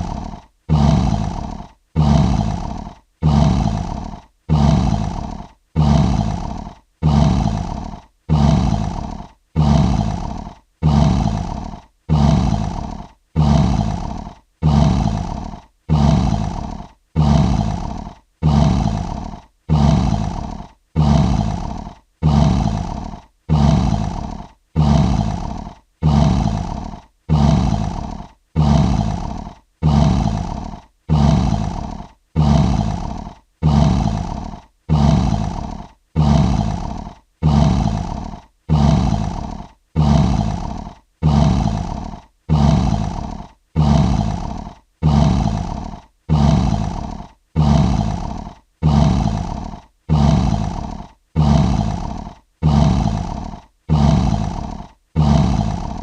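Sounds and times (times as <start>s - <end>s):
lion roaring grunts: 0.0s - 56.0s.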